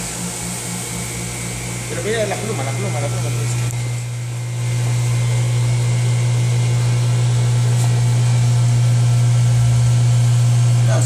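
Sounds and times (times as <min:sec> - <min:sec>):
vacuum pump humming: 0:00.0 - 0:11.0.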